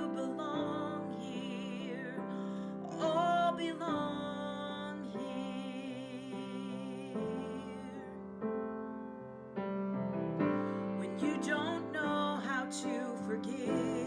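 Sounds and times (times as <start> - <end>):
woman singing a hymn: 0.0 - 8.4, 11.0 - 14.0
piano chords: 0.0 - 14.0.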